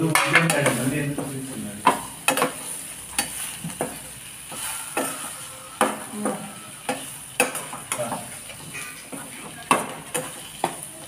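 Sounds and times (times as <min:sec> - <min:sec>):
spoon scraping and knocking pan: 0:00.0 - 0:10.9
potatoes sizzling in a pan: 0:00.0 - 0:11.0.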